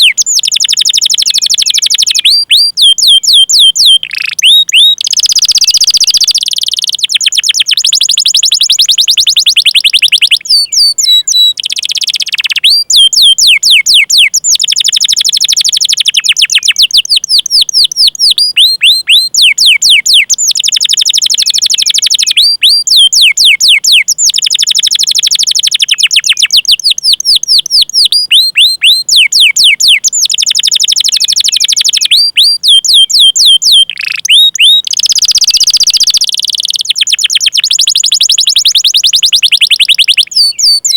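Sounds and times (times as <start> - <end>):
canary singing trills and chirps: 0.0 - 40.9.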